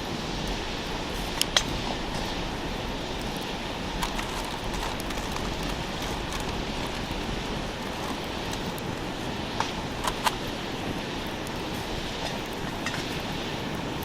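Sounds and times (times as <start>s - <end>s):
campfire burning with hiss: 0.0s - 14.0s
fire crackles: 0.0s - 14.0s.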